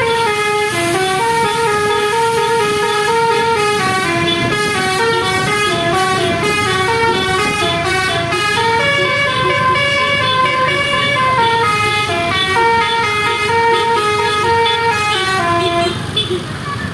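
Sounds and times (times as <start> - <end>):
musical bus air horn: 0.0 - 16.5.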